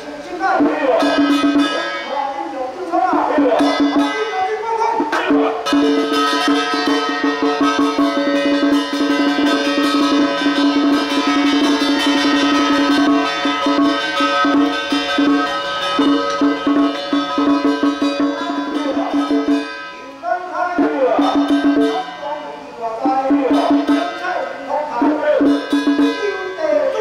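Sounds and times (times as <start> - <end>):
fast steady percussion: 0.0 - 27.0
traditional melody: 0.0 - 27.0.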